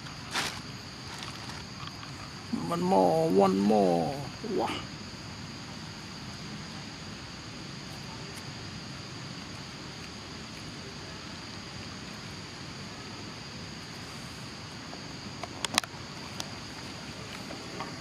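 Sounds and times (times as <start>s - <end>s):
constant hiss: 0.0s - 18.0s
insects droning: 0.0s - 18.0s.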